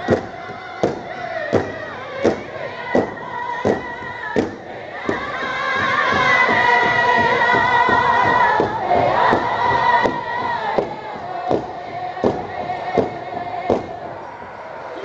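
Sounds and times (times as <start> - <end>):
group singing in high voices: 0.0 - 15.0
large drum beating: 0.0 - 15.0.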